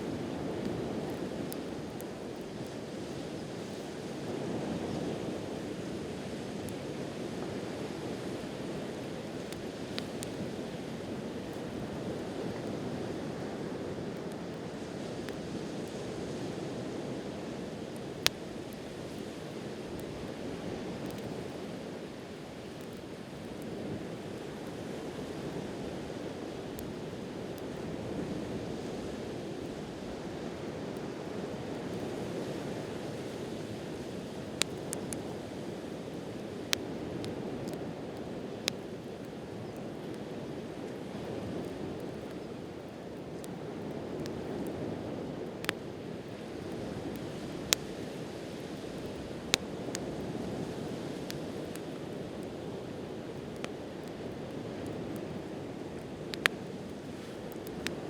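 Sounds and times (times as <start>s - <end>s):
campfire pops: 0.0s - 58.0s.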